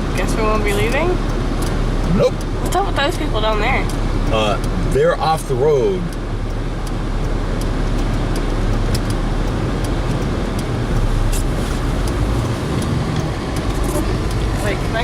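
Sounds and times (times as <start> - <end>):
cabin and road noise: 0.0 - 15.0
vehicle engine rumbling: 0.0 - 15.0.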